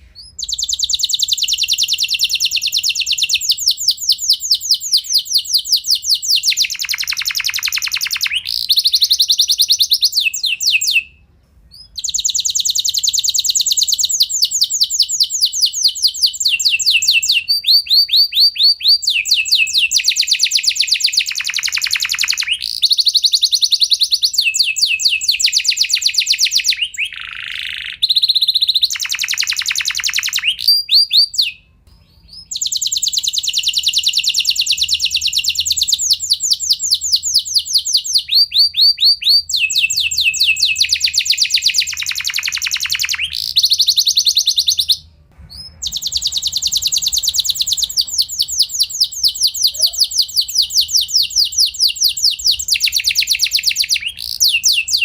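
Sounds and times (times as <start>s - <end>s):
canary trilling: 0.0s - 55.0s.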